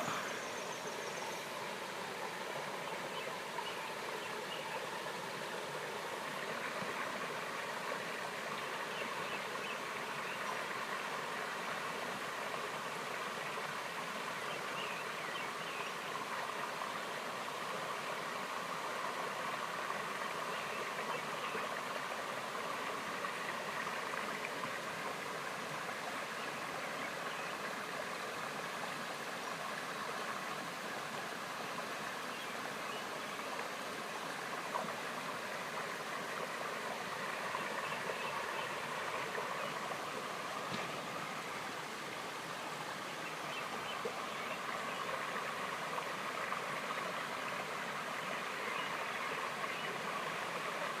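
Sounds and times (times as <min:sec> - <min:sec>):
stream running over rocks: 0:00.0 - 0:51.0.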